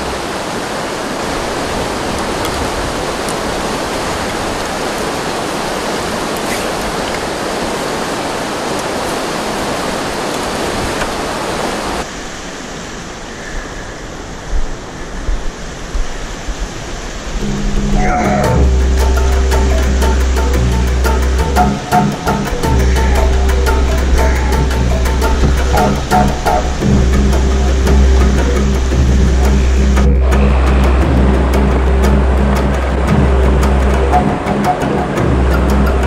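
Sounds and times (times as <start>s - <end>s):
rushing river rapid: 0.0s - 36.0s.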